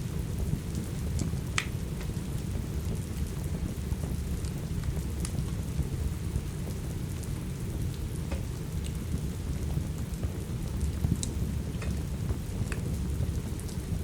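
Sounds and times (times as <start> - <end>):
steady rain: 0.0 - 14.0
wood fire crackling: 0.0 - 14.0.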